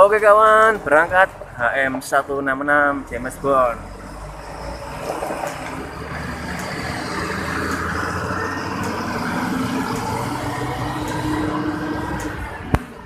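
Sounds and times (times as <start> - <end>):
diesel bus pulling away: 0.0 - 13.0.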